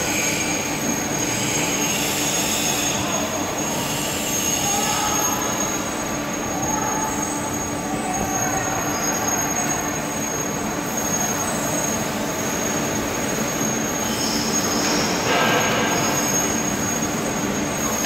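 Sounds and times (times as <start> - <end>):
brief high squeal: 0.0 - 17.2
hydraulic machine humming and whining: 0.0 - 18.0.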